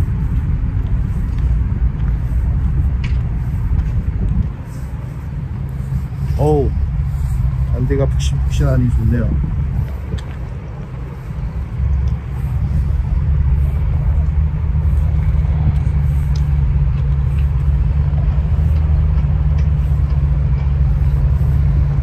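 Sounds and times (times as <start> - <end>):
loud low rumble: 0.0 - 22.0.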